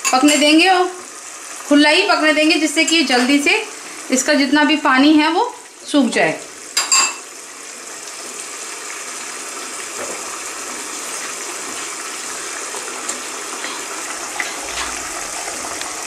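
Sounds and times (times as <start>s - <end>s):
carrots bubbling and sizzling: 0.0s - 16.0s.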